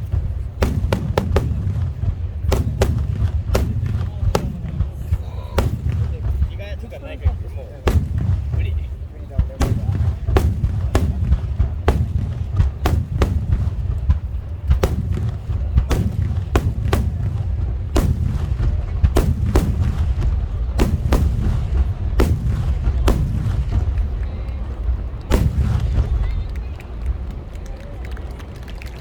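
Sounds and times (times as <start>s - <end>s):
low rumble of booms: 0.0s - 28.0s
fireworks bursting with sharp bangs: 0.0s - 29.0s.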